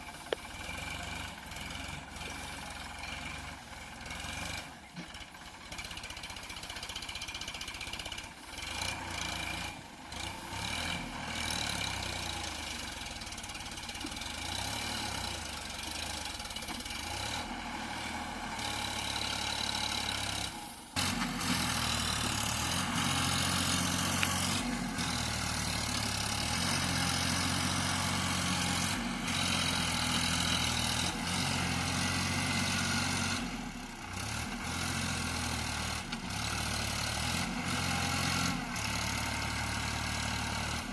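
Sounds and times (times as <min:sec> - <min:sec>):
backhoe diesel engine digging: 0:00.0 - 0:40.9.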